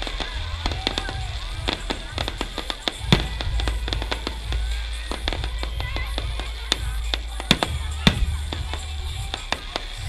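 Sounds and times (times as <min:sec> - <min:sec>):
firework bangs: 0:00.0 - 0:10.0
firework pops and crackles: 0:00.0 - 0:10.0
music: 0:00.0 - 0:10.0.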